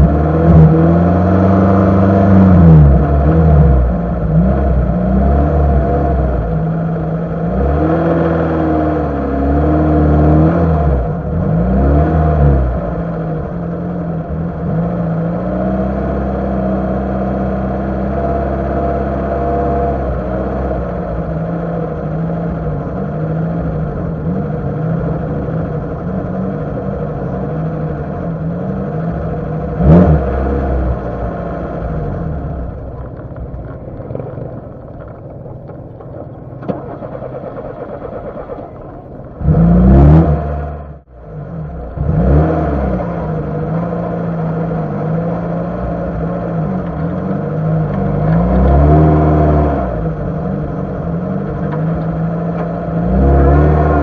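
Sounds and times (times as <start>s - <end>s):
car engine revving off-road: 0.0s - 54.0s.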